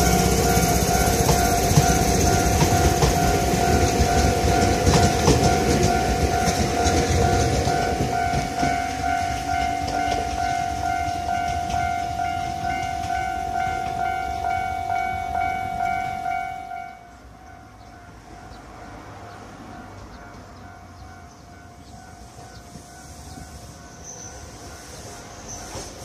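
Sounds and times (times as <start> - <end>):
level-crossing alarm ringing: 0.0 - 18.8, 20.4 - 25.9
electric train rumble and wheel clatter: 0.0 - 26.0.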